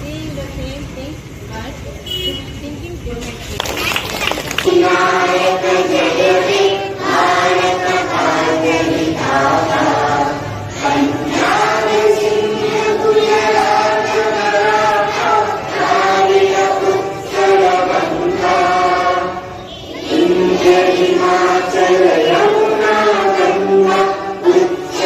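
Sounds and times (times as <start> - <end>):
children singing in unison: 4.6 - 25.0.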